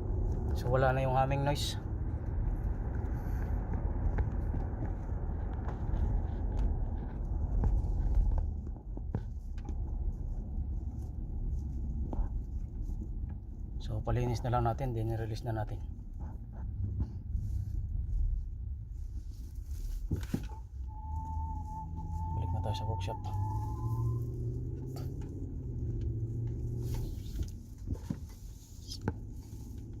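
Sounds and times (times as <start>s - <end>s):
vehicle interior road rumble: 0.0s - 30.0s.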